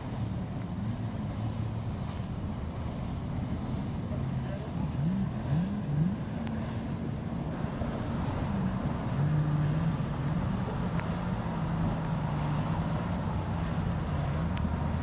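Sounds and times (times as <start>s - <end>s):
boat engines droning: 0.0s - 15.0s
wind buffeting microphone: 0.0s - 15.0s.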